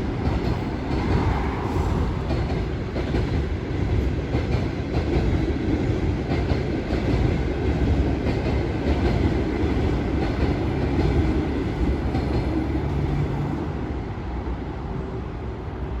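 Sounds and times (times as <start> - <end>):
train wheels clattering on rails: 0.0 - 13.6.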